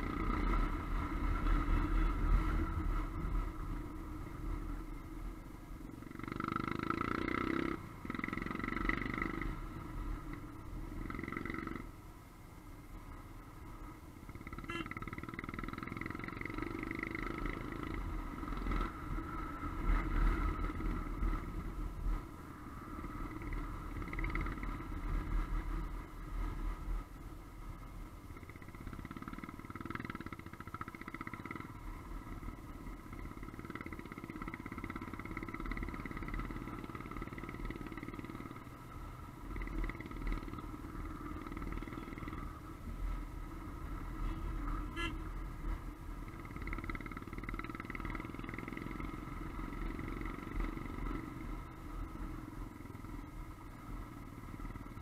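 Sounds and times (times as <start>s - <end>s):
motorcycle engine running: 0.0s - 12.0s, 13.0s - 55.0s.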